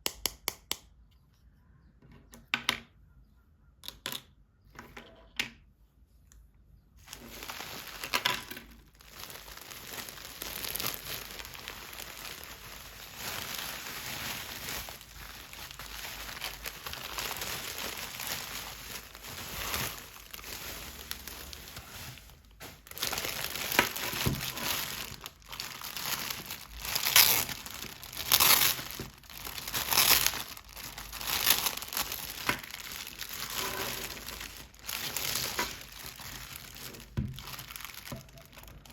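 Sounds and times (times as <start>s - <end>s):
packaging crinkling: 7.0s - 38.9s.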